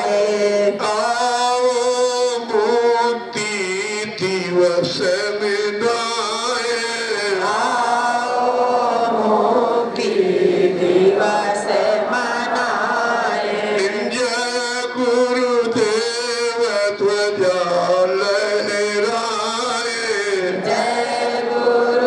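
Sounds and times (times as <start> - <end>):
man chanting into a microphone: 0.0 - 9.2, 13.3 - 22.0.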